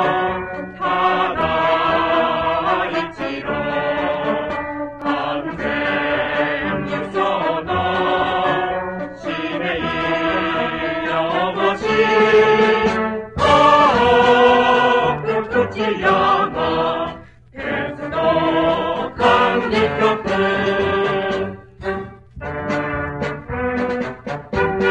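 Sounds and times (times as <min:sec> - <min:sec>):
mixed choir singing: 0:00.0 - 0:22.1
brass band playing: 0:00.0 - 0:24.9.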